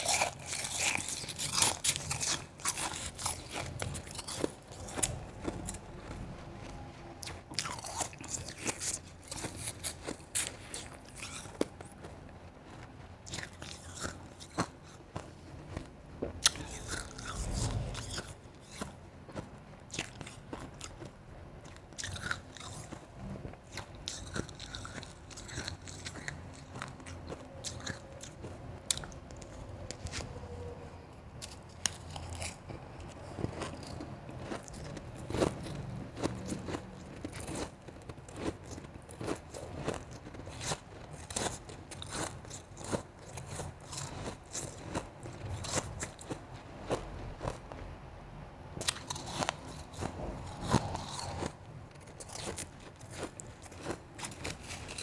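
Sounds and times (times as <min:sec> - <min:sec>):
chewing crunchy shaved ice: 0:00.0 - 0:30.6, 0:31.4 - 0:47.9, 0:48.8 - 0:55.0.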